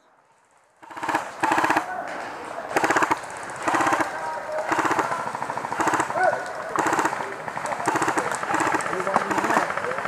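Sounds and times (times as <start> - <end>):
airsoft rifle bursts: 0.8 - 10.0.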